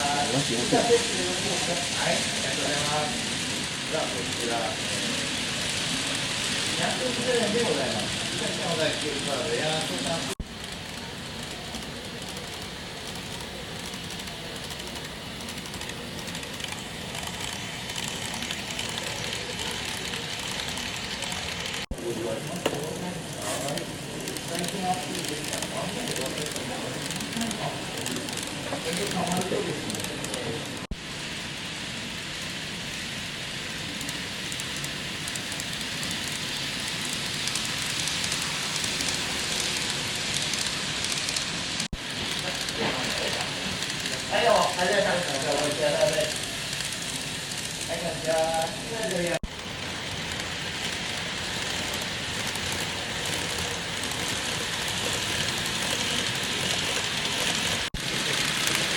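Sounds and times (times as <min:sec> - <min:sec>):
model train whirring on track: 0:00.0 - 0:58.9.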